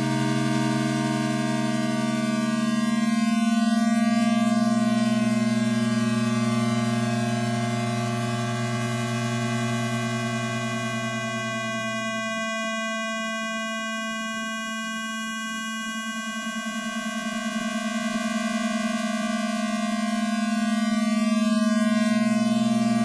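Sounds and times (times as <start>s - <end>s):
buzzy electronic drone: 0.0s - 23.0s.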